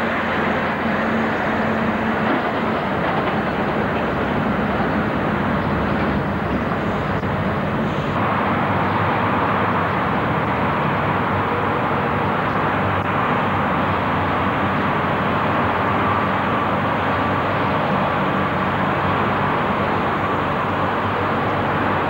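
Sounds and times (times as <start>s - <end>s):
lorry diesel engines droning: 0.0s - 22.0s.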